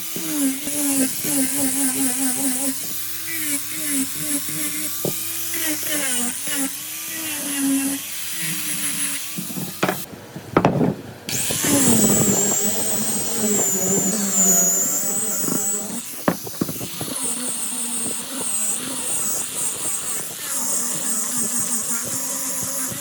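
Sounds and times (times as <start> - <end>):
power tool motor whining: 0.0 - 23.0.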